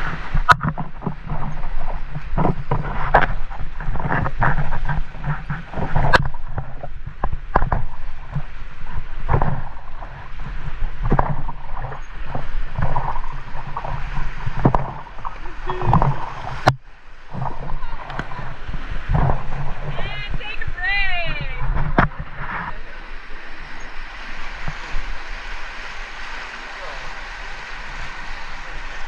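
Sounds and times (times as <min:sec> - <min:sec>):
water rushing: 0:00.0 - 0:29.0
water splashing around raft: 0:00.0 - 0:29.0
wind on microphone: 0:00.0 - 0:29.0.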